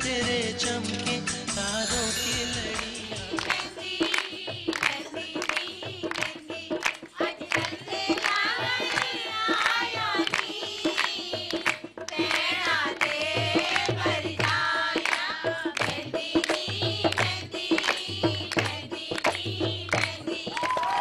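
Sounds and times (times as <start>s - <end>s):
voices singing folk song: 0.0s - 21.0s
hand drums beating: 2.3s - 21.0s
hand-clapping: 2.8s - 21.0s.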